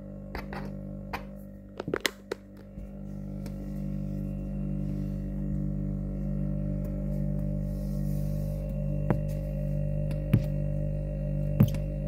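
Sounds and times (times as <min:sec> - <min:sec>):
freezer compressor humming: 0:00.0 - 0:12.0.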